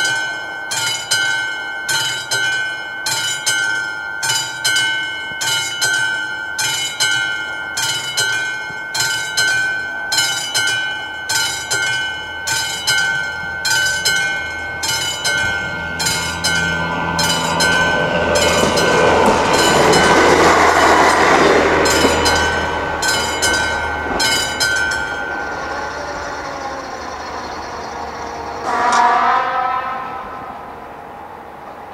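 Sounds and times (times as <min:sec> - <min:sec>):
level-crossing warning bell ringing: 0:00.0 - 0:31.9
train rumble and rail noise: 0:00.0 - 0:31.9.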